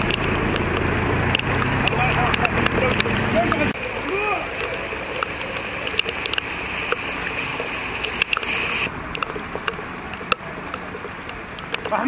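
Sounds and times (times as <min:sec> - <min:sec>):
rain and running water: 0:00.0 - 0:12.0
sharp ticks: 0:00.0 - 0:12.0.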